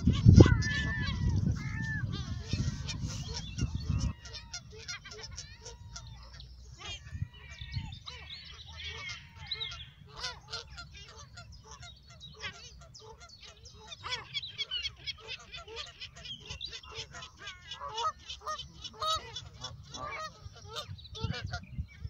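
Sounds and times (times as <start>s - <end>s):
geese honking: 0.0s - 21.8s.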